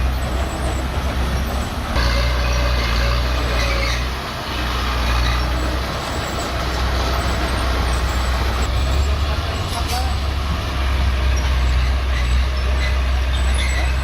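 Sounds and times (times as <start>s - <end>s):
bulldozer diesel engine under load: 0.0s - 14.0s.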